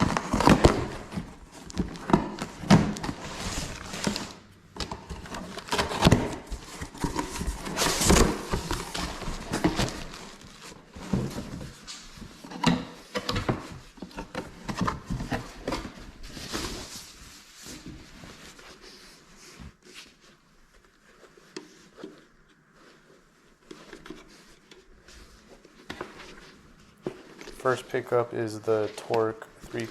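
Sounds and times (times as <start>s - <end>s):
objects being handled: 0.0s - 29.9s.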